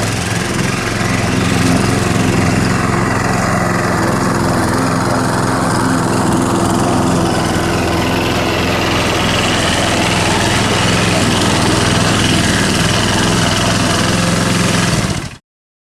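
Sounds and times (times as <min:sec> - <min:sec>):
lawn mower engine running: 0:00.0 - 0:15.4.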